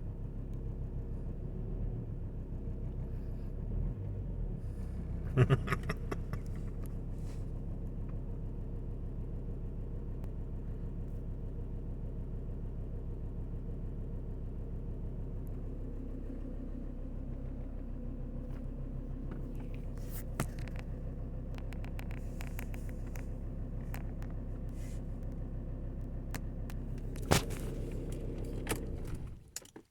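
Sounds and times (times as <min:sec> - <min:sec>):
diesel engine running: 0:00.0 - 0:29.8.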